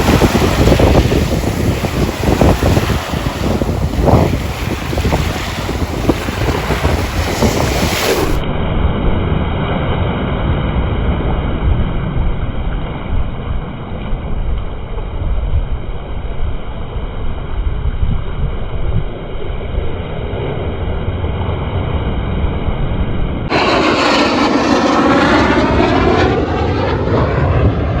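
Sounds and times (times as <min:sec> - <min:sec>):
sea noise: 0:00.0 - 0:14.0, 0:19.2 - 0:28.0
aircraft passing low overhead: 0:00.0 - 0:28.0
wind on microphone: 0:00.0 - 0:28.0.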